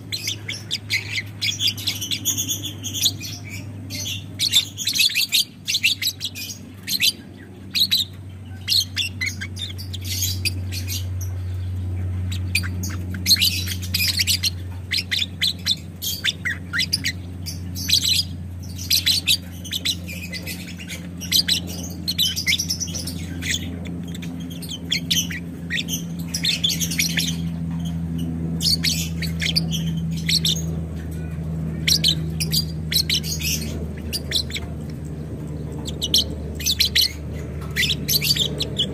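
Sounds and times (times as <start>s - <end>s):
lovebird chattering: 0.0s - 38.9s
low hum: 0.0s - 38.9s.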